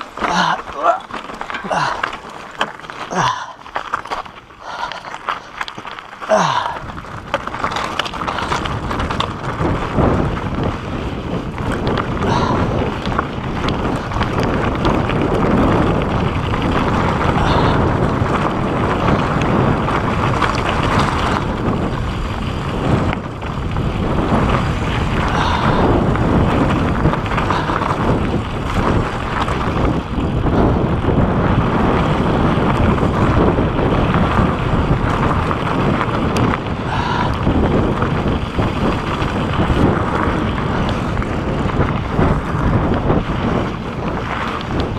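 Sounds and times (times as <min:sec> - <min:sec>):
mountain bike rattling downhill: 0:00.0 - 0:44.9
wheels knocking on stones: 0:00.0 - 0:44.9
wind on microphone: 0:06.3 - 0:44.9.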